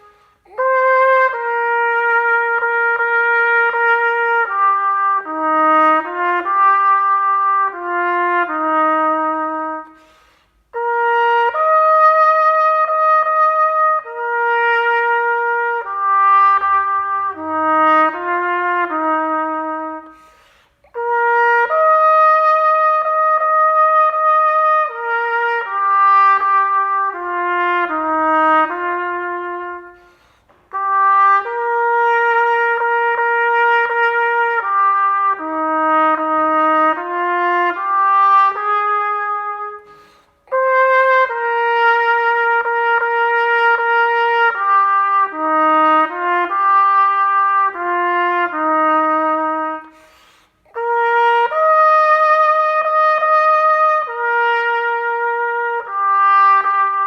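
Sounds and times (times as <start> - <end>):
solo trumpet playing slow melody: 0.0 - 57.0.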